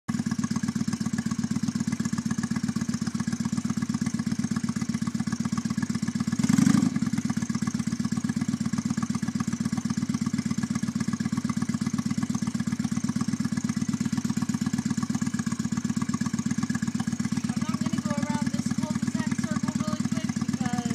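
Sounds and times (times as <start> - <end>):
motorcycle engine idling: 0.1 - 20.9.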